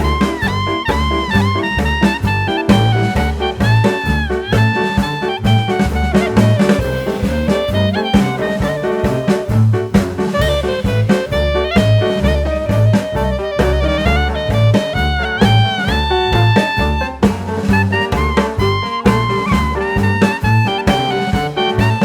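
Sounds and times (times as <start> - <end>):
upbeat jazzy instrumental music: 0.0 - 22.0.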